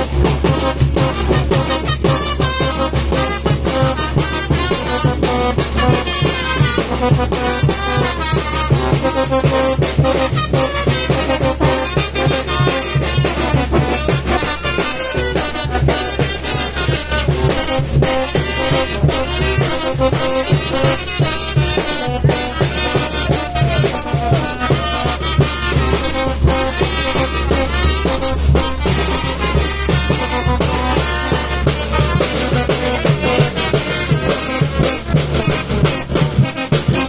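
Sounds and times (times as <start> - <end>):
driving drum beat: 0.0 - 37.0
trumpets and trombones: 0.0 - 37.0.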